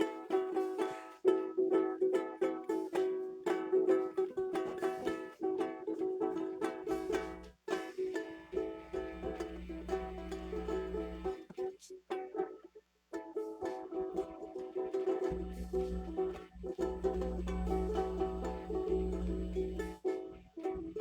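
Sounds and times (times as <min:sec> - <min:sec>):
acoustic string instrument strumming: 0:00.0 - 0:21.0
low steady hum: 0:00.0 - 0:21.0.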